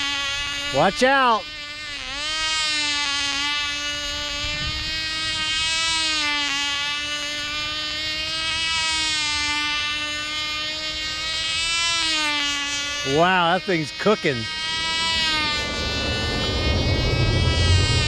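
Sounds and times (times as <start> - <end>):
model airplane engine whine: 0.0 - 18.0.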